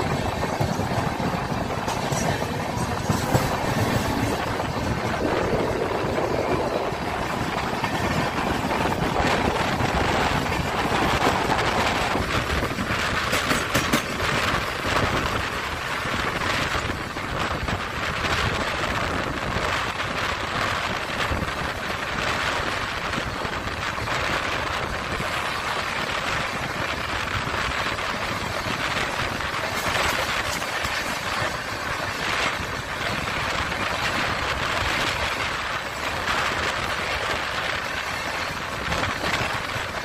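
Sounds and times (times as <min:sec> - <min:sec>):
train wheels on rails: 0:00.0 - 0:40.0
wind buffeting microphone: 0:00.0 - 0:40.0.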